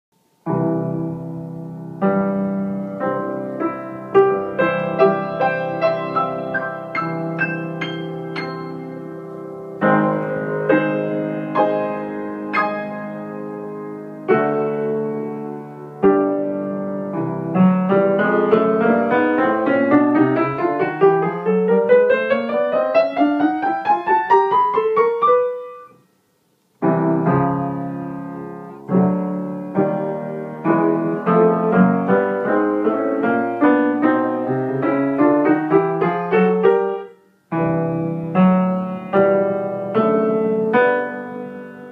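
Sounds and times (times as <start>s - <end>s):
grand piano playing: 0.4s - 26.0s, 26.8s - 41.9s.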